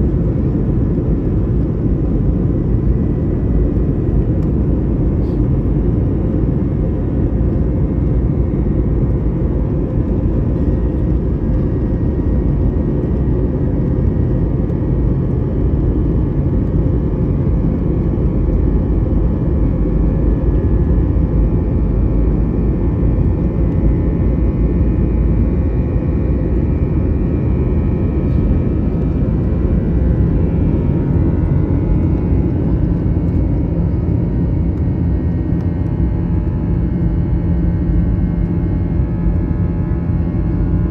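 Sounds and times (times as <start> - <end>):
high engine whine: 0.0 - 40.9
jet engines rumbling: 0.0 - 40.9.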